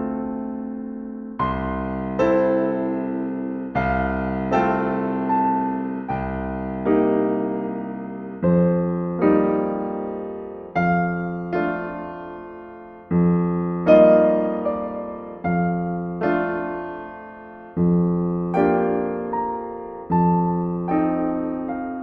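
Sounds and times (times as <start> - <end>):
gentle solo piano chords: 0.0 - 22.0.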